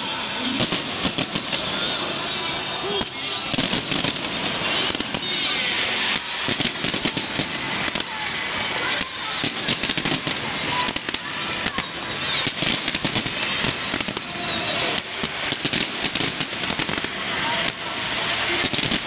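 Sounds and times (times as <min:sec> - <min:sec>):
fireworks bangs and crackles: 0:00.0 - 0:19.0
fireworks hiss: 0:00.1 - 0:19.0.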